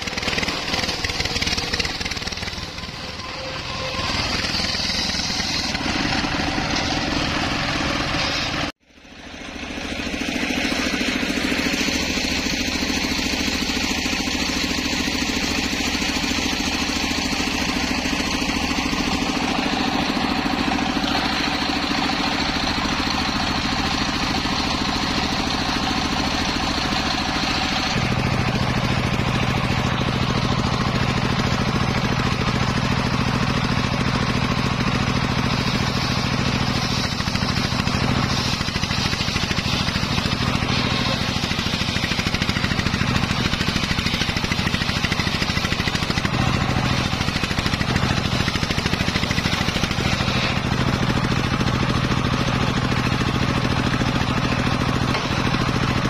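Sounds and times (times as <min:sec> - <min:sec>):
circular saw ripping through log: 0:00.0 - 0:56.0
stationary engine running: 0:00.0 - 0:56.0.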